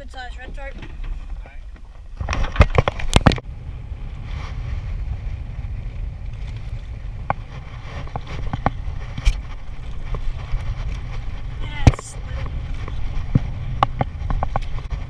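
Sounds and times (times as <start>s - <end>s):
water against boat: 0.0s - 15.0s
wind: 0.0s - 15.0s.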